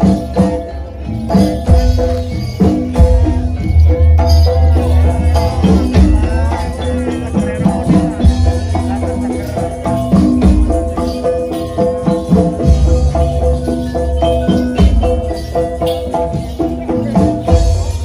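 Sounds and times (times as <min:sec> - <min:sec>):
loud drum beats: 0:00.0 - 0:18.0
metallophone and gong notes: 0:00.0 - 0:18.0.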